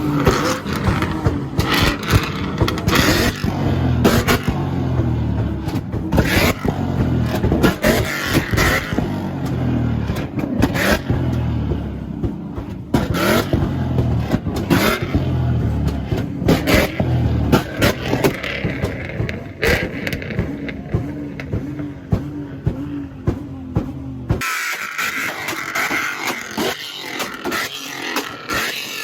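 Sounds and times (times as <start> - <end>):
car engine revving in bursts: 0.0 - 29.0
exhaust pops and bangs: 0.0 - 29.0.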